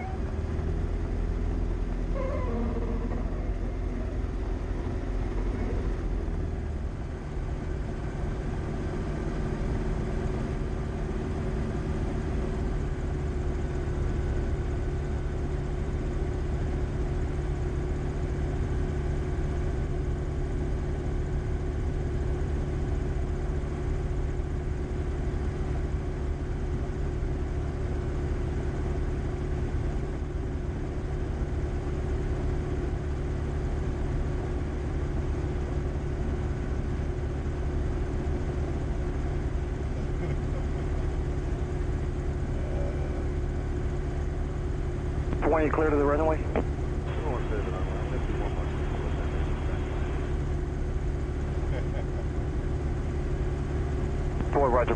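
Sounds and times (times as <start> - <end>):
light aircraft engine idling: 0.0 - 54.9.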